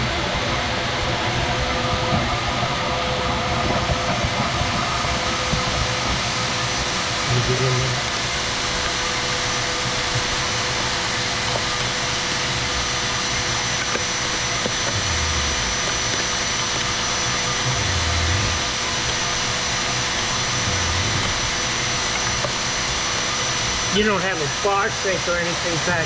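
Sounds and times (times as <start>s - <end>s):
vacuum running with high whine: 0.0s - 26.0s.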